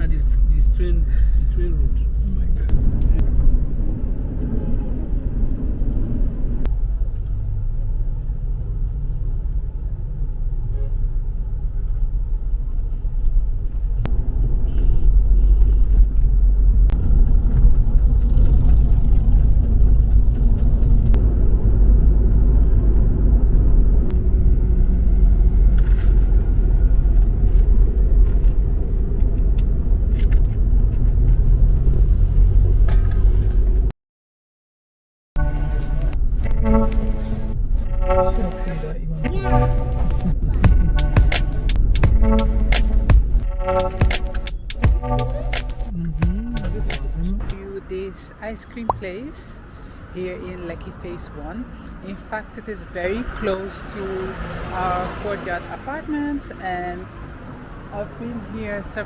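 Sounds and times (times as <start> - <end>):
car driving rumble: 0.0 - 33.9, 35.4 - 59.0.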